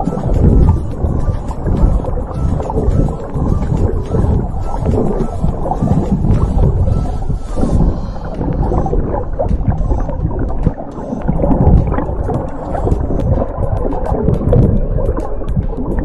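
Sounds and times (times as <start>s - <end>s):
underwater rumble of moving water: 0.0s - 16.0s
water gurgling: 0.0s - 16.0s.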